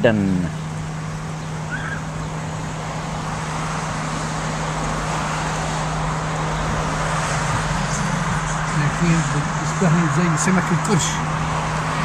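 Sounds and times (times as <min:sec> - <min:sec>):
low engine hum: 0:00.0 - 0:12.0
road and traffic noise: 0:00.0 - 0:12.0.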